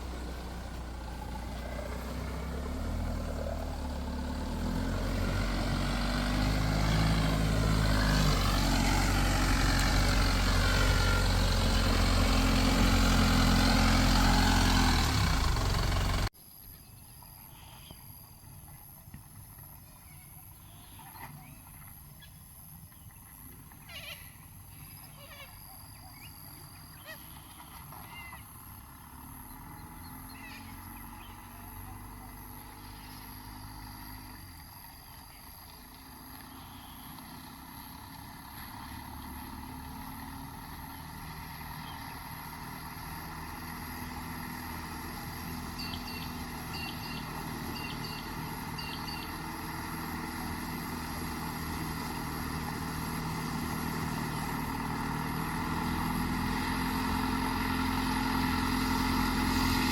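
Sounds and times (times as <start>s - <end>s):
diesel engine running: 0.0s - 16.3s, 26.6s - 59.9s.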